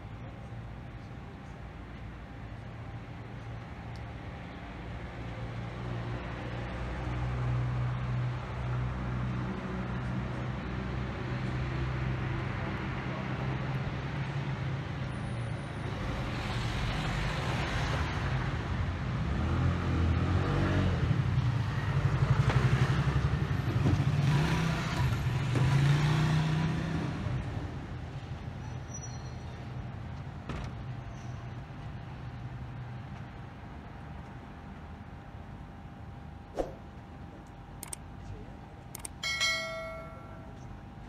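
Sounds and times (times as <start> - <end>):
vehicles passing: 0.0 - 28.9, 29.5 - 41.0.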